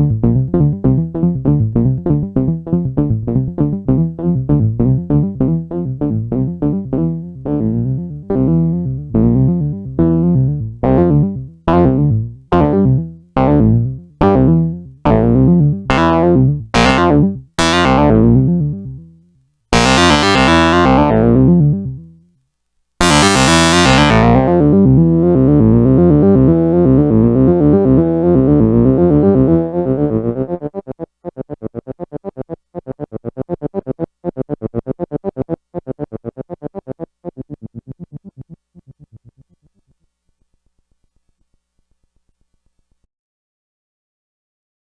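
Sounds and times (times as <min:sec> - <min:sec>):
analog synthesizer chiptune pattern: 0:00.0 - 0:18.6, 0:19.8 - 0:21.7, 0:23.0 - 0:39.3.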